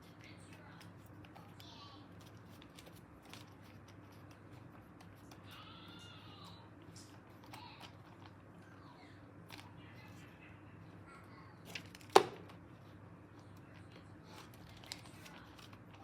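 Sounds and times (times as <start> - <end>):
faint handling noise: 0.0 - 16.0.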